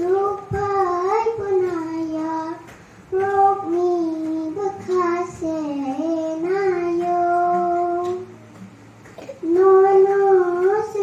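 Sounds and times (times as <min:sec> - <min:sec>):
girl singing into microphone: 0:00.0 - 0:08.4, 0:09.2 - 0:11.0.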